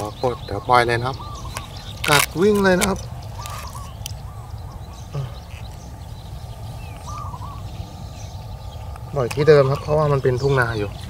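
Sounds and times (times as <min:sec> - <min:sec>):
birds chirping: 0:00.0 - 0:11.0
low background noise: 0:00.0 - 0:11.0.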